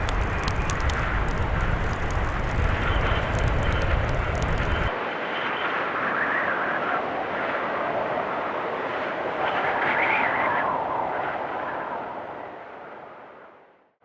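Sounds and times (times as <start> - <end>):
blizzard wind gusting: 0.0 - 13.5.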